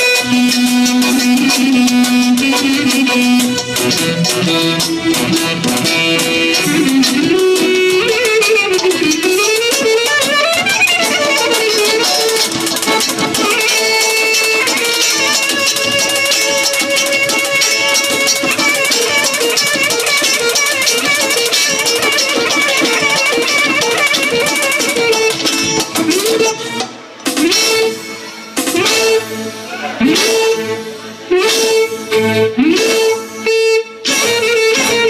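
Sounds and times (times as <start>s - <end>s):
clarinet playing fast melody: 0.0s - 35.0s
guitar accompaniment: 0.0s - 35.0s.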